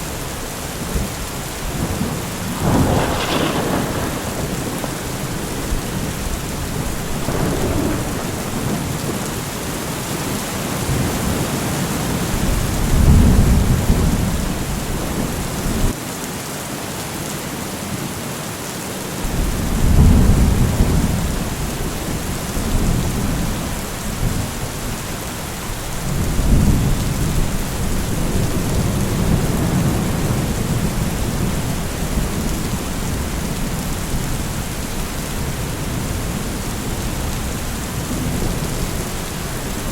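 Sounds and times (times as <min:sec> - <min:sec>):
heavy rain: 0:00.0 - 0:39.9
rolling thunder: 0:00.8 - 0:10.1, 0:12.3 - 0:16.0, 0:19.3 - 0:39.9.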